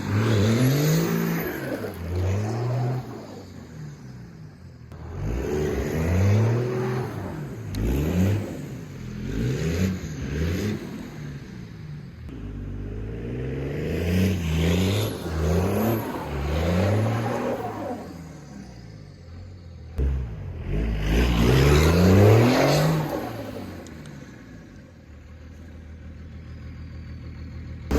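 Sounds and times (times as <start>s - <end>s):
diesel engine revving: 0.0s - 27.9s.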